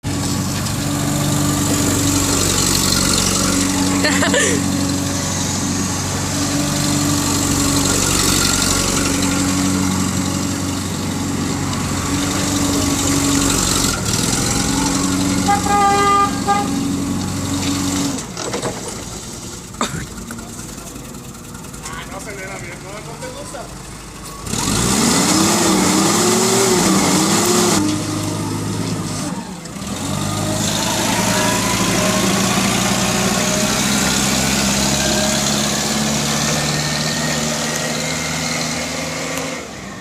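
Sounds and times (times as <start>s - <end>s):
bulldozer diesel engine droning: 0.0s - 40.0s.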